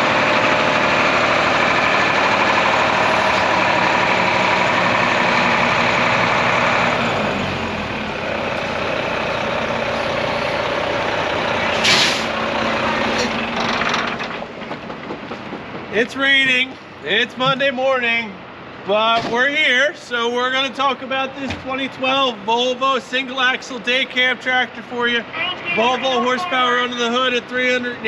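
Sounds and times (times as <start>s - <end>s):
diesel truck engine running: 0.0s - 28.0s.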